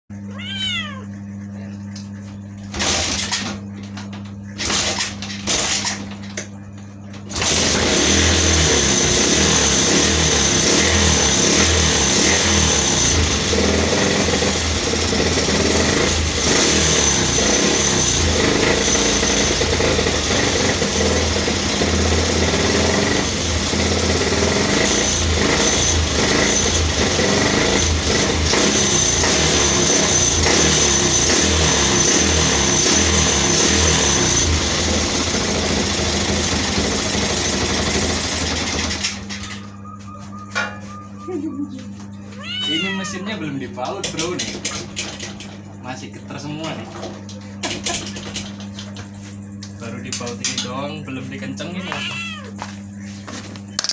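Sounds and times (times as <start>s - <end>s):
motorcycle engine running: 1.3s - 45.8s.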